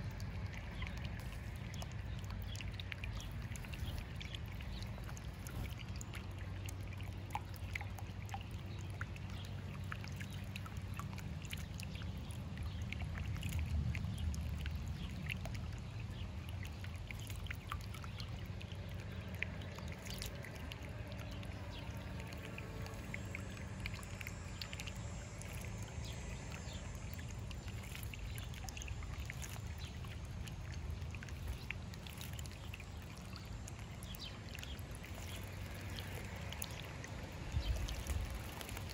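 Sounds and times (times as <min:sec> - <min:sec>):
fountain trickling and bubbling: 0:00.0 - 0:38.9
low steady hum: 0:00.0 - 0:38.9
ticks and splashes: 0:00.0 - 0:38.9.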